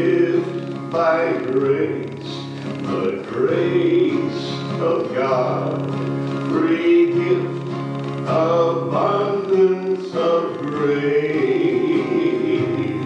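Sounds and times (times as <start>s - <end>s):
man singing a hymn: 0.0s - 13.0s.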